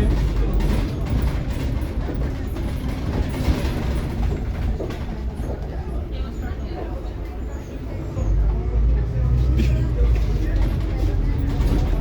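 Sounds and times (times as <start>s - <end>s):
clicks and rattles of bus body: 0.0s - 7.1s, 9.4s - 12.0s
bus drivetrain and road rumble: 0.0s - 12.0s.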